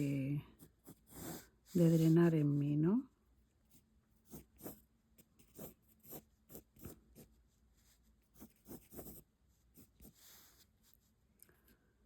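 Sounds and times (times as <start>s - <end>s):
pencil scratching on paper: 0.0s - 2.7s, 3.7s - 11.0s.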